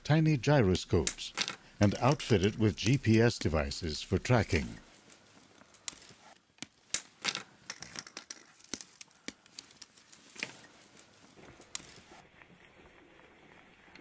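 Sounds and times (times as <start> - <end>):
gloved hands rustling wires: 0.0 - 14.0.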